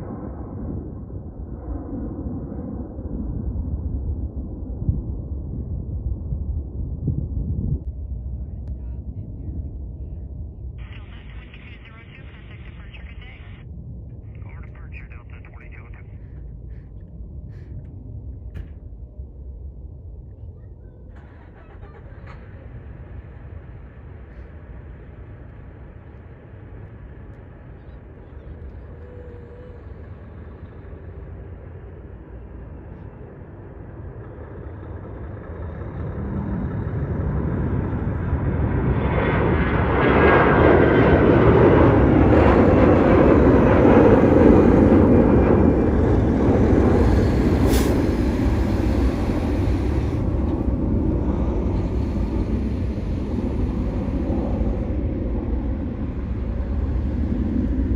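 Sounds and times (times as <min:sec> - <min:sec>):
jet engine roar: 0:10.6 - 0:20.3, 0:21.0 - 0:57.9.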